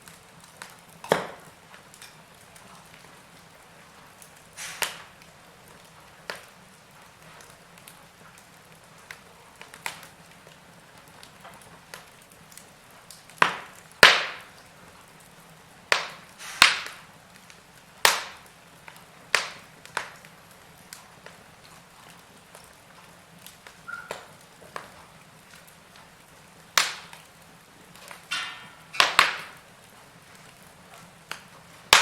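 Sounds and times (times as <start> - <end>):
faint steady hiss: 0.0 - 32.0
wood fire crackling and popping: 0.0 - 32.0.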